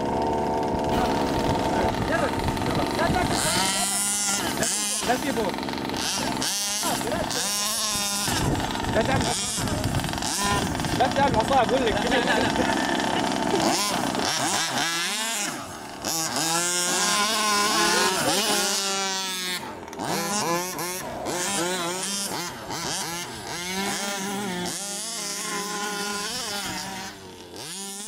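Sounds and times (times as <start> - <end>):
rc buggy engine revving: 0.0 - 28.0.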